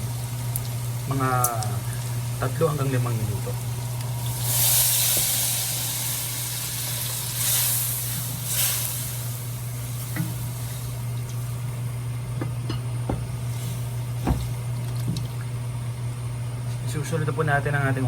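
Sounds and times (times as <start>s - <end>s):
stock sizzling in a hot pan: 0.0s - 15.3s.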